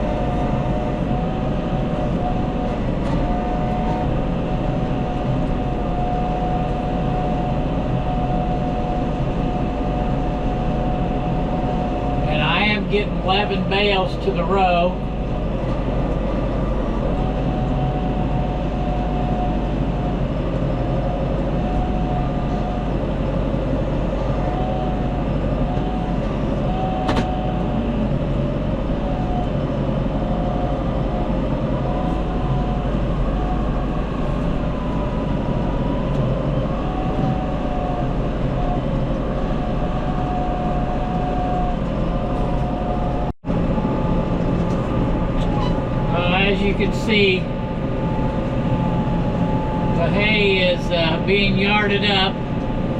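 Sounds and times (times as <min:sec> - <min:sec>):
tractor engine running: 0:00.0 - 0:52.9
whine drifting in pitch: 0:00.0 - 0:52.9.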